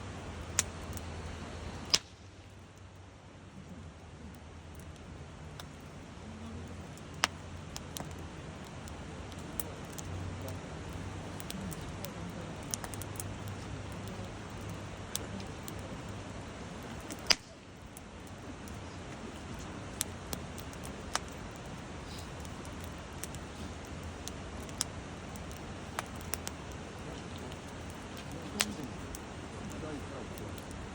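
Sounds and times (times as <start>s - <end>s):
campfire crackling: 0.0s - 30.9s
fire popping: 0.0s - 30.9s
low steady rumble: 0.0s - 30.9s.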